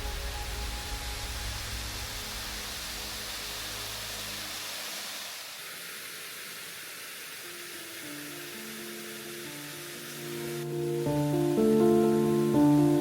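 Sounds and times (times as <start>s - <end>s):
faint music notes: 0.0s - 5.2s, 7.4s - 13.0s
waterfall rushing: 0.0s - 13.0s.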